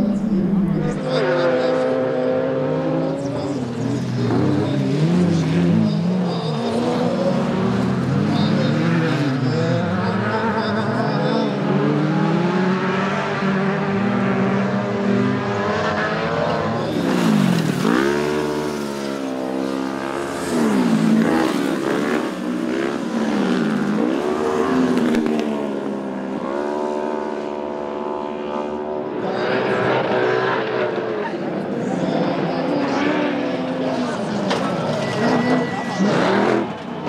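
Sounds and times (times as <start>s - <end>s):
racing engines revving high: 0.0s - 37.0s.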